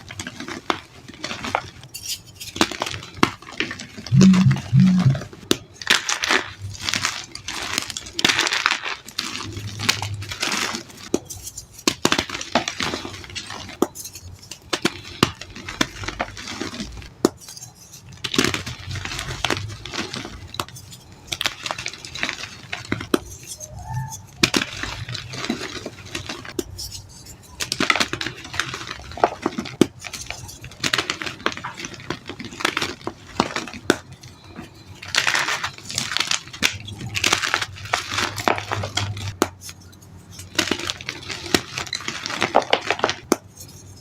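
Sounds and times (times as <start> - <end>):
chalk being crushed by hand: 0.0 - 44.0.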